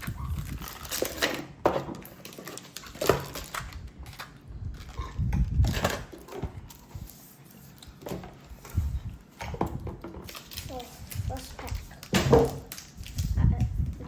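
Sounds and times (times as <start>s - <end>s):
card box and foil packs rustling: 0.0s - 14.0s.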